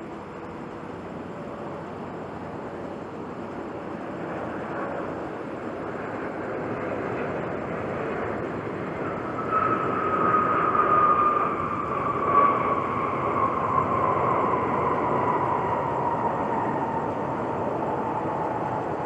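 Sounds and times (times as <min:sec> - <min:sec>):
high engine whine: 0:00.0 - 0:19.0
jet engines rushing: 0:00.0 - 0:19.0.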